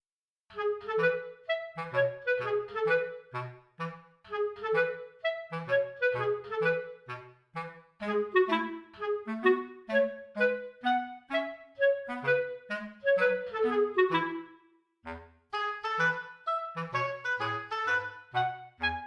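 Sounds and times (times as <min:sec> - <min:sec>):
bouncy woodwind tune: 0:00.5 - 0:19.0.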